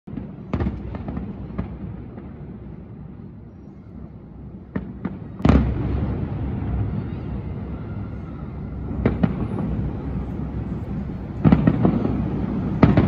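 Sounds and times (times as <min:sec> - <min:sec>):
distant fireworks bangs: 0:00.1 - 0:03.2, 0:04.5 - 0:13.0.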